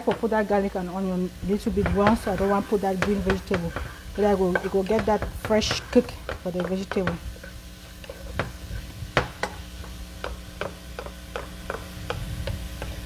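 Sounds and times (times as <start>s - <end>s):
steady low hum: 0.0s - 13.0s
shrimps popping in oil: 1.8s - 13.0s.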